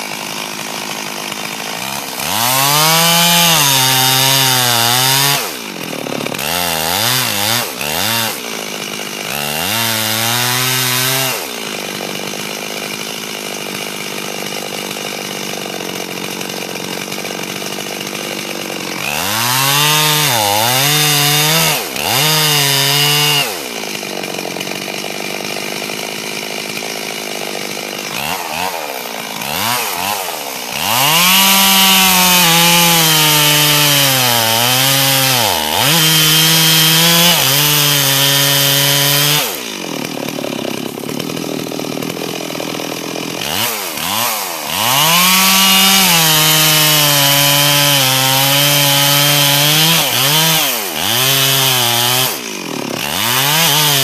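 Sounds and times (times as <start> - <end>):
chainsaw idling and revving: 0.0 - 54.0.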